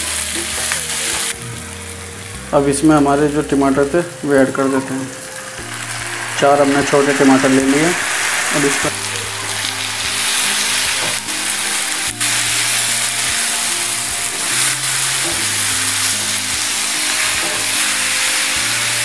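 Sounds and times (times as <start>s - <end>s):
background music with held notes: 0.0s - 19.0s
vegetables sizzling in hot oil: 0.0s - 19.0s.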